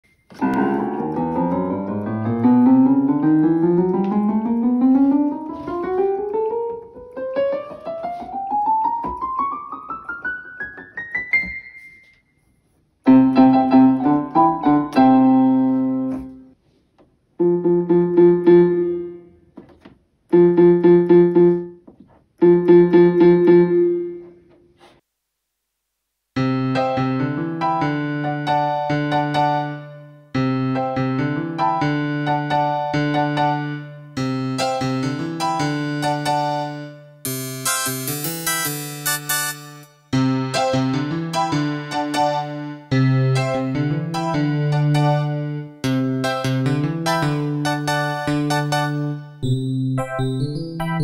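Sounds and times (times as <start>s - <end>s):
held keyboard chords: 0.2s - 12.2s, 13.0s - 16.6s, 17.4s - 24.4s, 26.4s - 51.0s
keyboard piano notes climbing: 0.2s - 12.2s, 13.0s - 16.6s, 17.4s - 24.4s, 26.4s - 51.0s.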